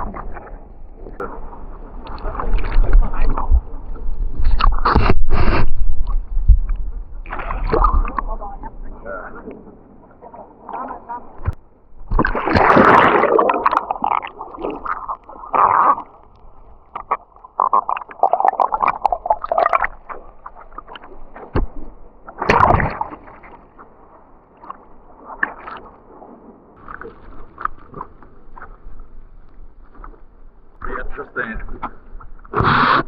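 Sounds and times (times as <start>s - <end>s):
muffled underwater water sloshing: 0.0s - 32.8s.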